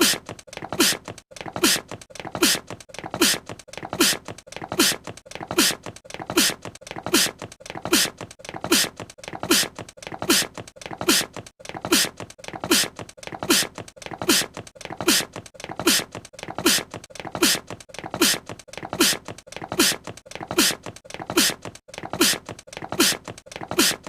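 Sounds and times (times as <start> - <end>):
small sneeze: 0.0 - 24.0.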